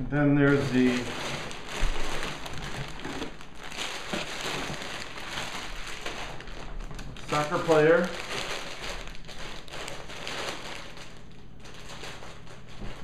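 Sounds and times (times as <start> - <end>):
packaging rustling and crinkling: 0.4 - 13.0.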